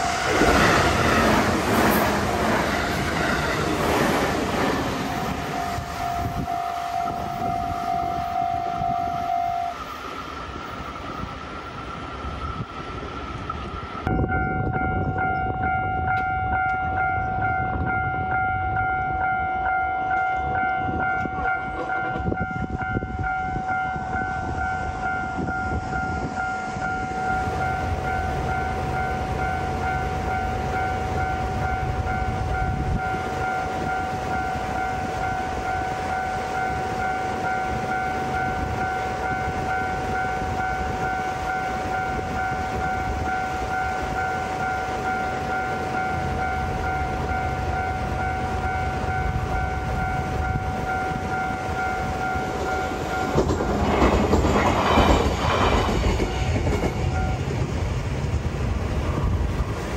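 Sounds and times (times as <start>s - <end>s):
level-crossing alarm ringing: 0.0s - 13.0s, 14.0s - 57.4s
train rumbling: 0.0s - 59.9s
train rushing past: 0.0s - 59.9s.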